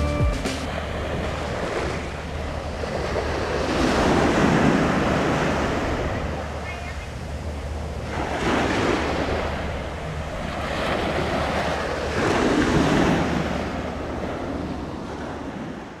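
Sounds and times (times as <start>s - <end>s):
waves breaking on beach: 0.0s - 16.0s
wind rumble on microphone: 0.7s - 16.0s.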